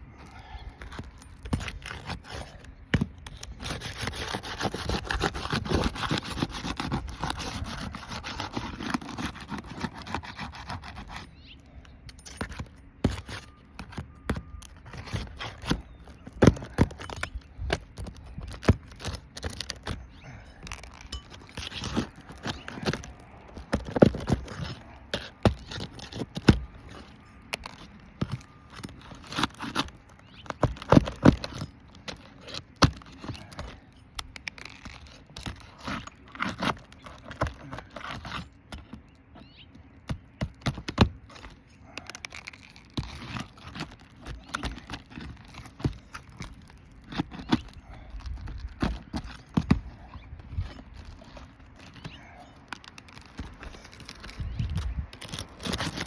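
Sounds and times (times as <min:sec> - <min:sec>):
pry tool scraping shingles: 0:00.2 - 0:56.0.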